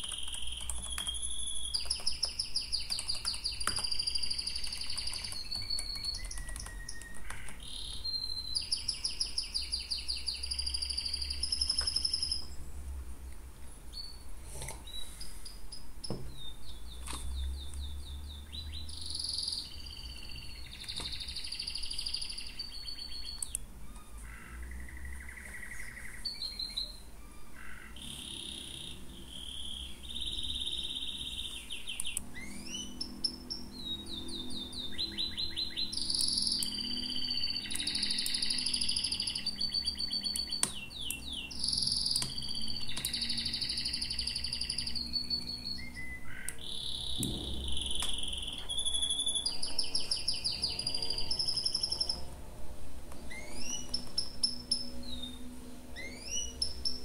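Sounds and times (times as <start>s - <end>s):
small birds chirping: 0.0s - 52.4s, 53.2s - 57.0s
low steady hum: 0.0s - 57.0s.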